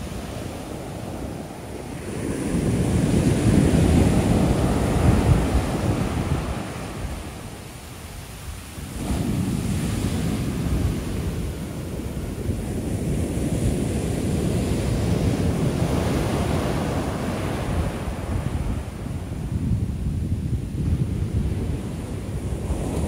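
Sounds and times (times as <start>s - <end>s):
surf rushing over sand: 0.0s - 23.0s.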